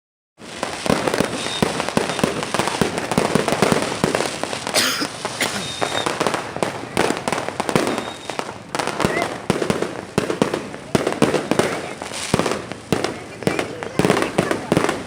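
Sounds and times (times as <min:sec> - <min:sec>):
firecrackers banging: 0:00.4 - 0:15.0.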